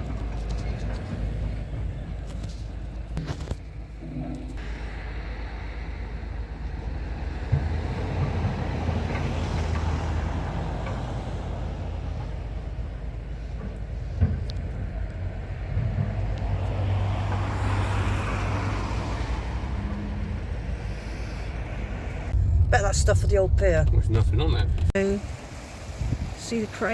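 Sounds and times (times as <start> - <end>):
road traffic passing: 0.0 - 26.9.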